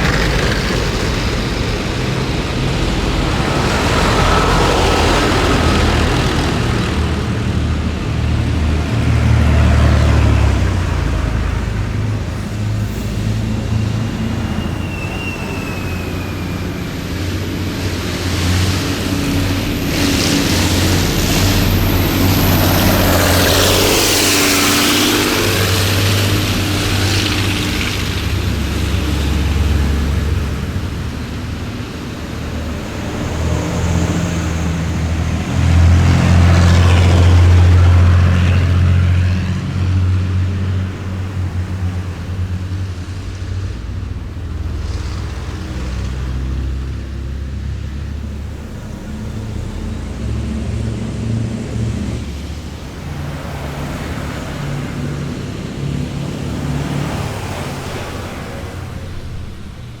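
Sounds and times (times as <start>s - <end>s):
military vehicles engine rumble: 0.0s - 60.0s
vehicle passing close: 0.0s - 60.0s.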